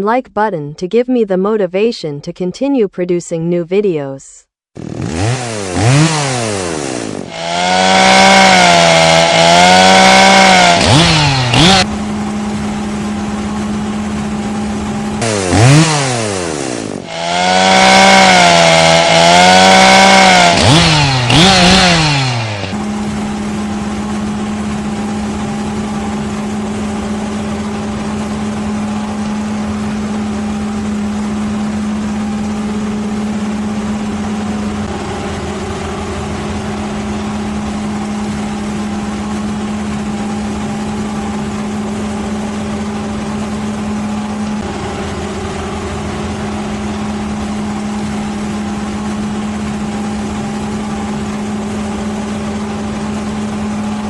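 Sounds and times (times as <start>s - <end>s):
engine running at high speed: 4.8s - 54.0s.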